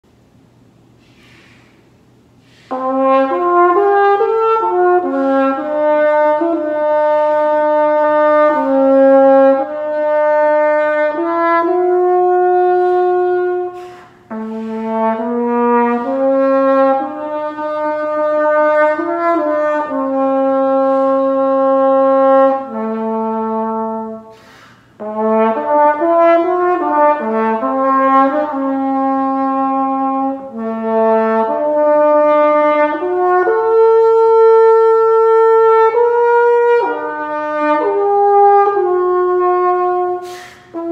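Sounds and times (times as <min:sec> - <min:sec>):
french horn melody: 0:02.4 - 0:40.9.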